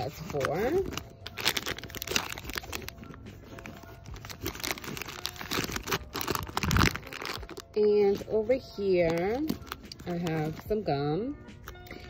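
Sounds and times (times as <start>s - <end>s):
plastic bags crinkling: 0.0s - 10.7s.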